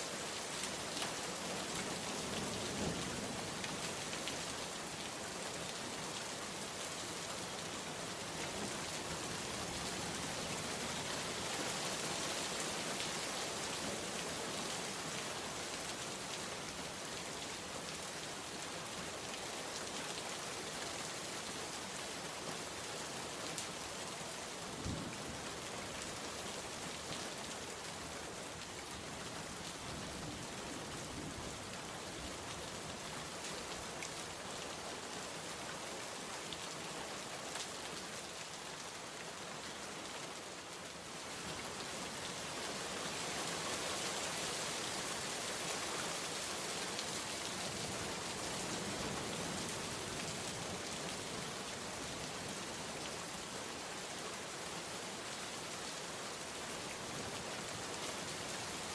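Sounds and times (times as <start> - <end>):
rain falling steadily: 0.0 - 58.9.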